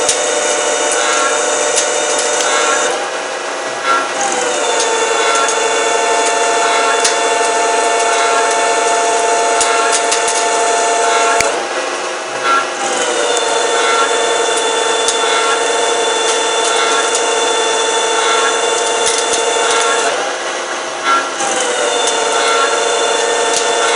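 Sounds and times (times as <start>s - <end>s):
cutting hiss: 0.0s - 23.9s
lathe whining: 0.0s - 23.9s.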